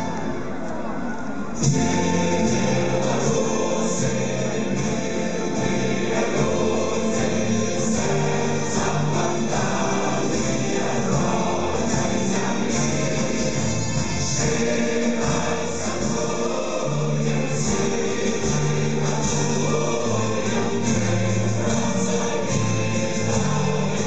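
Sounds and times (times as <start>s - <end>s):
choir singing held notes: 1.5s - 24.0s.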